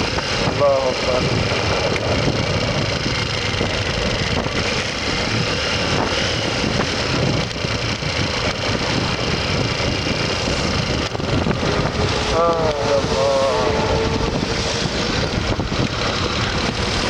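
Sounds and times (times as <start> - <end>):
motorcycle engine running: 0.0 - 17.0
road noise: 0.0 - 17.0
wind noise: 0.0 - 17.0.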